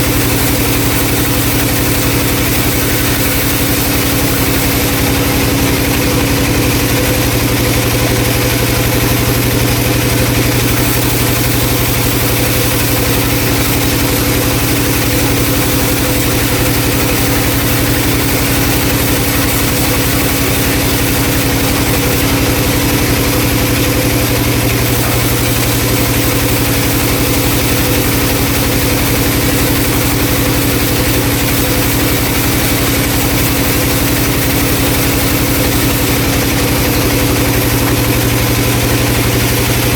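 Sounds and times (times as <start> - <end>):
band saw humming: 0.0 - 39.9.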